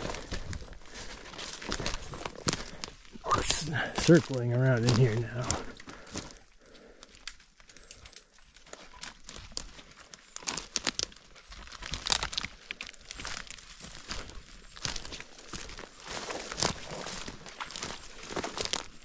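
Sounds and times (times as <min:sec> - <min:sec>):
footsteps on dry leaves: 0:00.0 - 0:07.0, 0:08.5 - 0:19.0.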